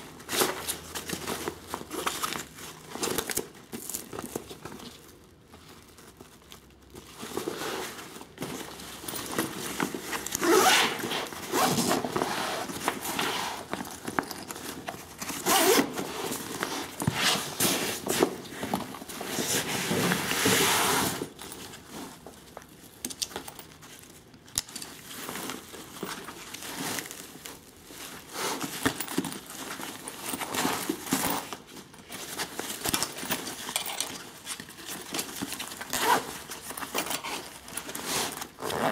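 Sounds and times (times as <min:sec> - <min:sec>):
nylon fabric rustling: 0:00.0 - 0:22.7, 0:25.2 - 0:38.9.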